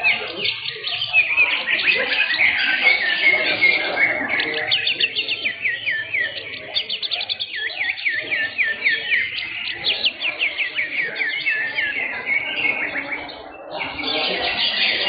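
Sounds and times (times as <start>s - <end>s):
birds whistling songs: 0.0s - 15.0s.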